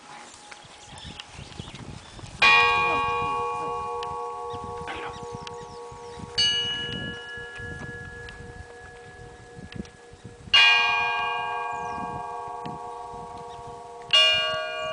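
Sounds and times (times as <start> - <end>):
church bells ringing: 2.4 - 14.9.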